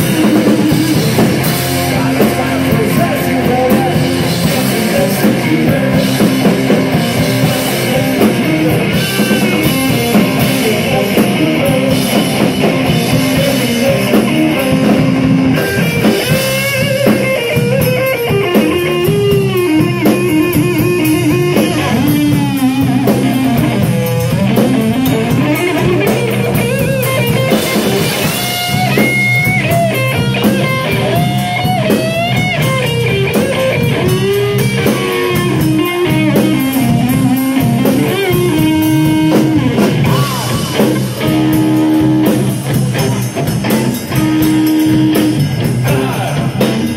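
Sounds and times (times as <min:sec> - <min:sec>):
bass guitar: 0:00.0 - 0:46.9
bending sliding lead guitar line: 0:00.0 - 0:46.9
drum kit: 0:00.0 - 0:46.9
electric guitar: 0:00.0 - 0:46.9.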